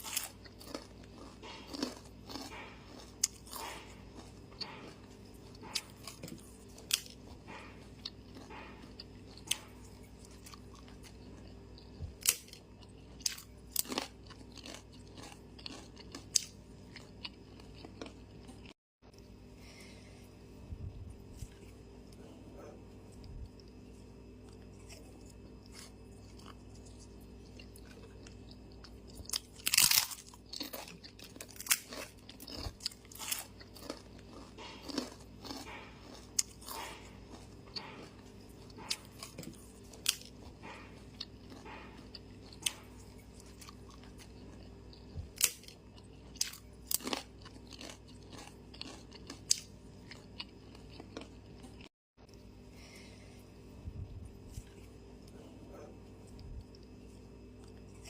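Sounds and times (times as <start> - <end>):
chewing and crunching: 0.0 - 58.0.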